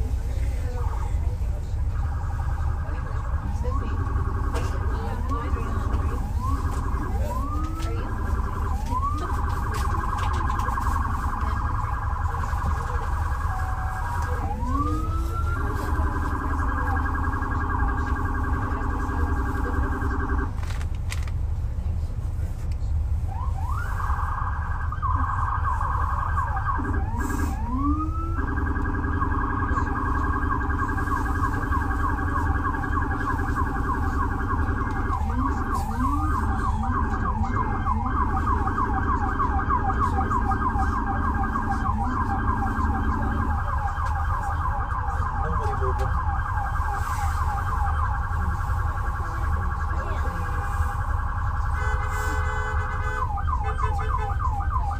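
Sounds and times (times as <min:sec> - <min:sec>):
emergency siren wailing and yelping: 0:00.0 - 0:20.6, 0:23.3 - 0:54.9
lower-pitched siren tone: 0:00.0 - 0:20.6, 0:23.3 - 0:54.9
low rumble of traffic: 0:00.0 - 0:54.9.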